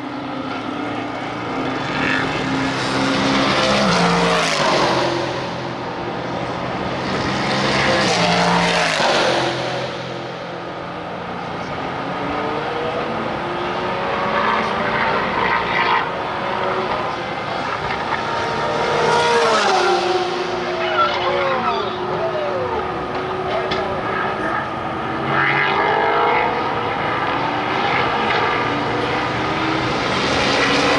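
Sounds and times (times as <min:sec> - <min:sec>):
race cars passing: 0:00.0 - 0:30.9.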